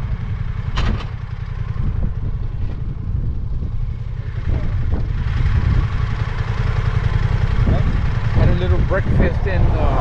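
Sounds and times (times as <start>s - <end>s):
motorcycle engines idling: 0.0s - 10.0s.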